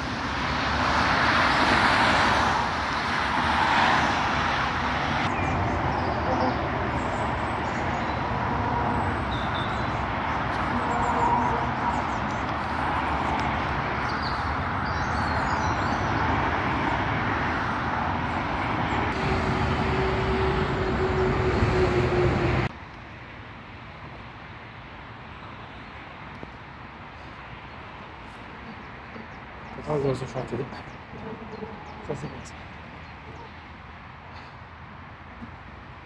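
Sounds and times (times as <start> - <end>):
motorway traffic: 0.0 - 36.0.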